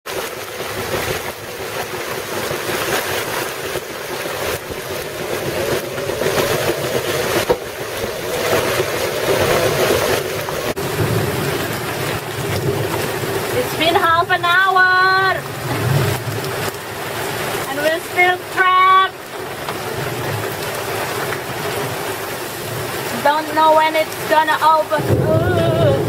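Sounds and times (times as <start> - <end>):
rushing sea water: 0.1 - 26.0
storm wind: 0.1 - 26.0.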